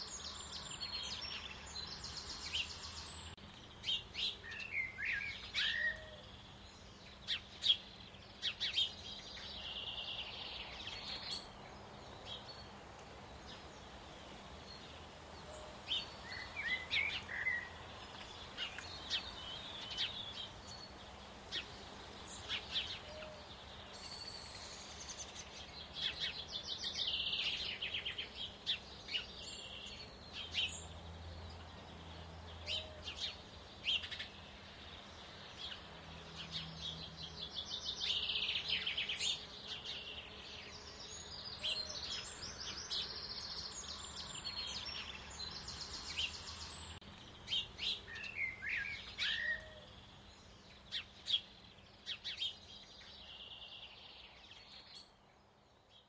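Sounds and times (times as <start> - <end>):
bird chirps: 0.0 - 12.8, 14.6 - 55.2
songbirds trilling: 0.0 - 56.0.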